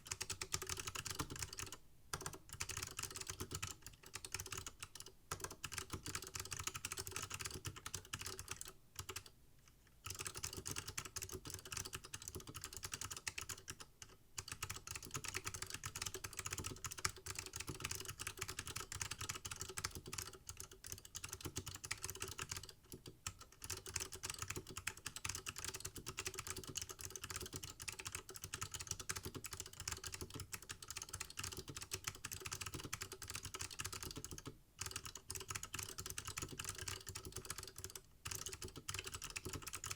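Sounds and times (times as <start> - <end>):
fast typing on mechanical keyboard: 0.0 - 9.3, 10.0 - 39.9.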